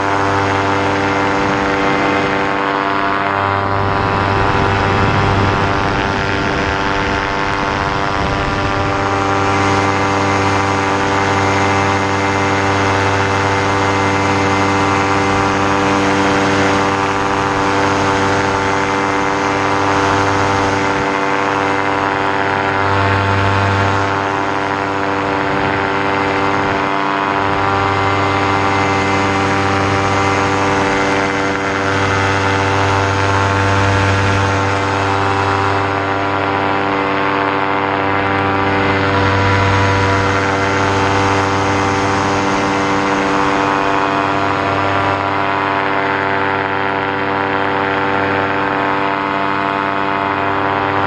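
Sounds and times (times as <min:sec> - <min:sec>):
paramotor engine and propeller: 0:00.0 - 0:51.0.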